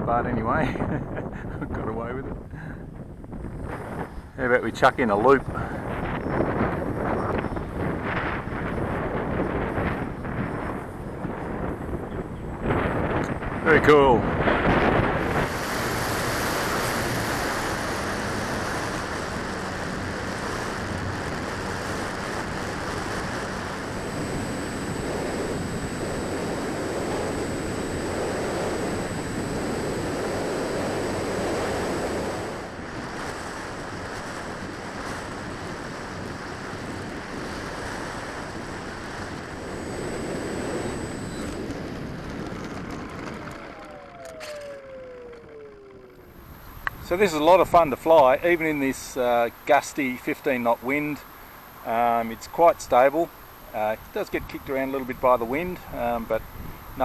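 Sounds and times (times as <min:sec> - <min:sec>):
gusty wind buffeting microphone: 0:00.0 - 0:57.0
thin high whine: 0:03.4 - 0:57.0.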